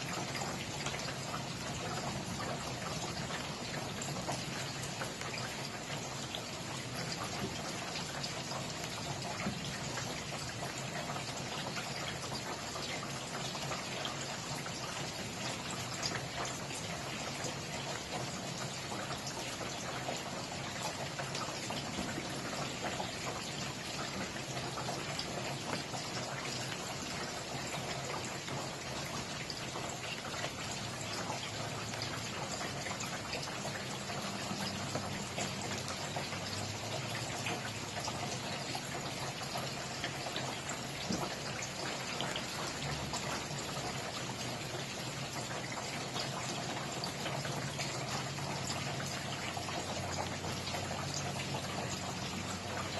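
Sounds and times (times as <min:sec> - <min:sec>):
steady rainfall: 0:00.0 - 0:52.9.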